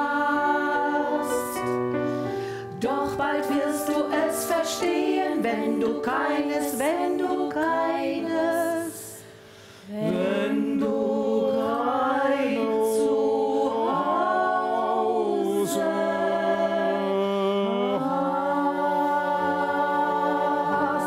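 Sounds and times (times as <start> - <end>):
women singing in harmony: 0.0 - 21.0.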